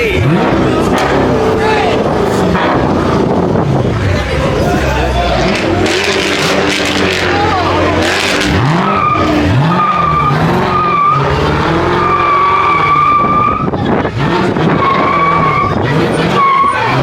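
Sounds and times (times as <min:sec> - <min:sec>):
car engine revving: 0:00.0 - 0:17.0
car tires squealing: 0:00.0 - 0:17.0.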